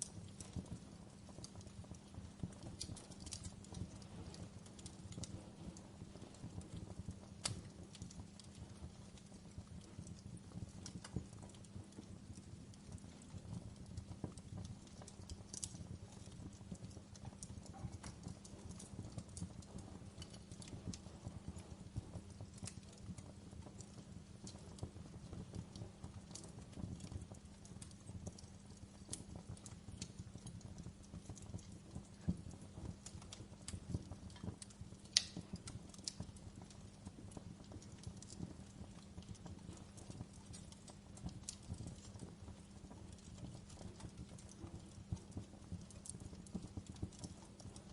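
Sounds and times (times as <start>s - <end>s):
fire flames rumbling: 0.0s - 47.9s
logs crackling and popping: 0.0s - 47.9s.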